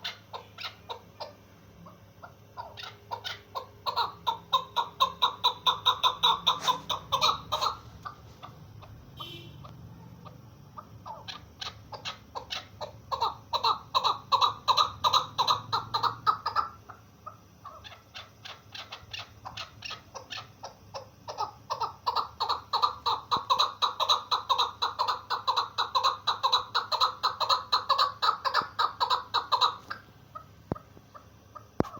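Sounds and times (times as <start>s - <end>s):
partridge calling rapid notes: 0.0s - 31.9s.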